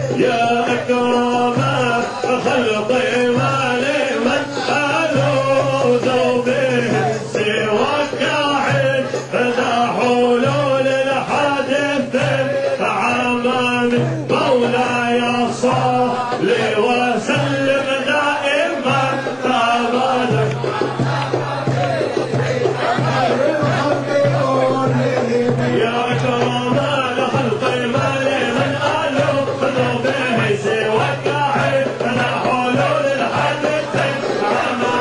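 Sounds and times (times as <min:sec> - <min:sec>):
men chanting devotional singing: 0:00.0 - 0:35.0.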